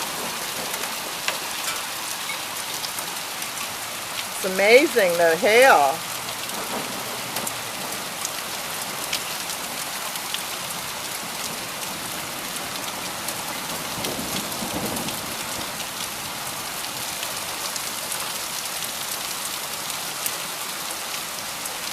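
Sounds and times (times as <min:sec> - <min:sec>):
hailstones ticking: 0:00.0 - 0:19.2
heavy rain and hail hissing: 0:00.0 - 0:21.9.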